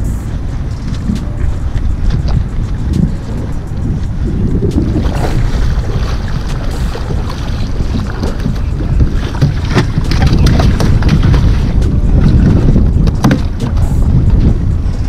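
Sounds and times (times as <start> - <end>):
choppy sea water: 0.0 - 15.0
wind buffeting microphone: 0.0 - 15.0.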